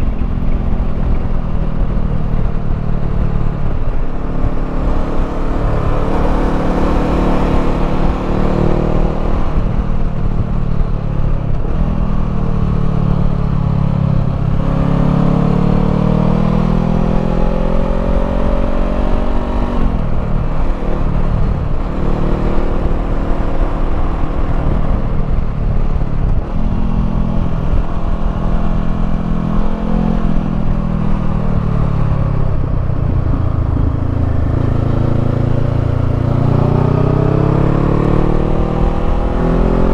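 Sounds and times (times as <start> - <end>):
motorcycle engine revving while riding: 0.0 - 39.9.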